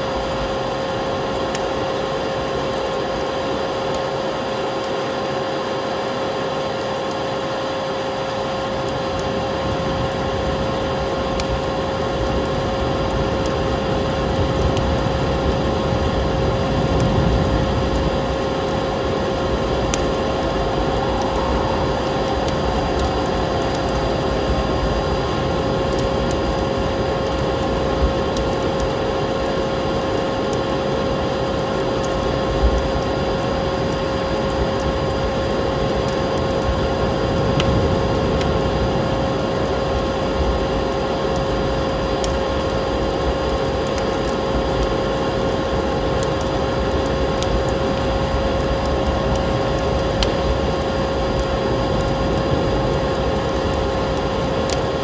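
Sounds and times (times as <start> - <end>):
constant humming tone: 0.0 - 55.0
wood fire crackling: 0.0 - 55.0.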